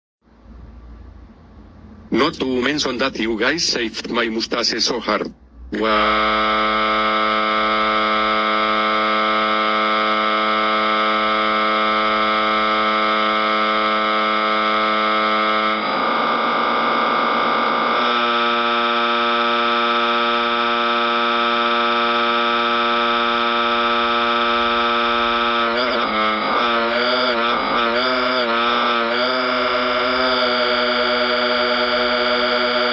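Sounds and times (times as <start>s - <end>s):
droning cartoon crying wail: 5.7s - 32.9s.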